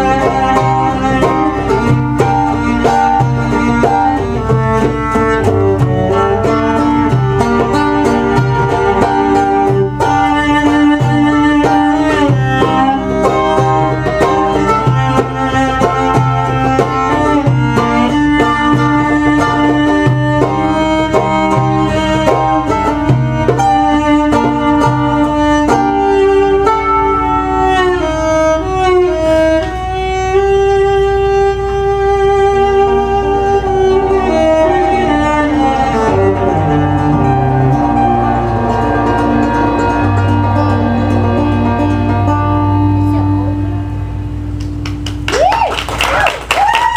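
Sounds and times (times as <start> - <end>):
hand drum beat: 0.0 - 27.2, 32.8 - 43.4
bowed cello: 0.0 - 45.0
plucked lute: 0.0 - 45.3.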